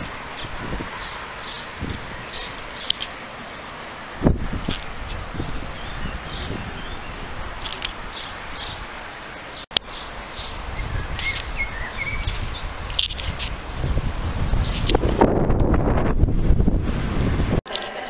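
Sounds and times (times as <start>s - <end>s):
wind rumble on microphone: 0.0s - 3.0s, 4.2s - 8.9s, 10.4s - 17.6s
songbirds chirping: 0.0s - 15.0s.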